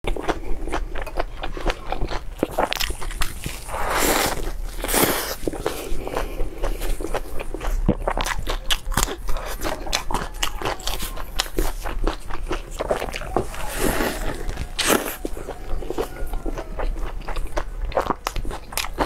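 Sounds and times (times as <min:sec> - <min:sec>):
biting and chewing bread: 0:00.0 - 0:19.0.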